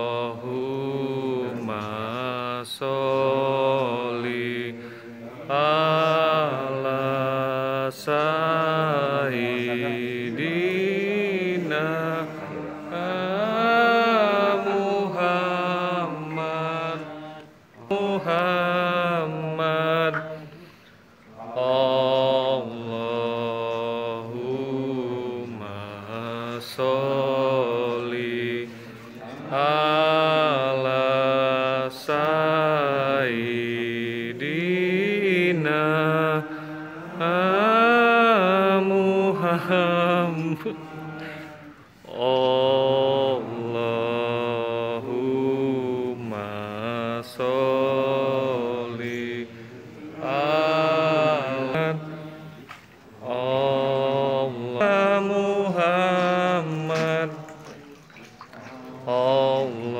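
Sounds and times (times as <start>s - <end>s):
slow ritual chanting: 0.0s - 59.9s.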